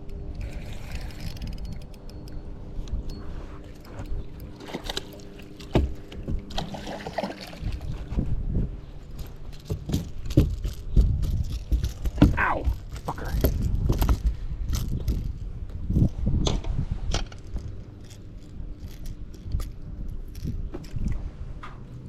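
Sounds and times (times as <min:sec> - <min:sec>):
fishing tackle clicks and knocks: 0:00.0 - 0:06.7, 0:09.1 - 0:21.9
wind and water rumble: 0:00.0 - 0:22.0.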